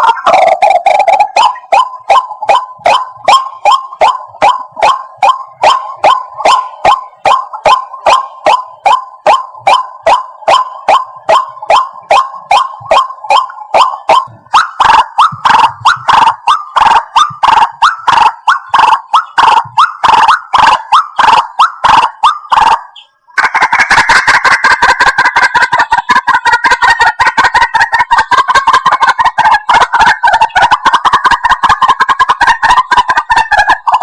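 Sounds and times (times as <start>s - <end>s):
rapid chatter of overlapping calls: 0.0s - 34.0s
waterhen calling: 0.0s - 34.0s.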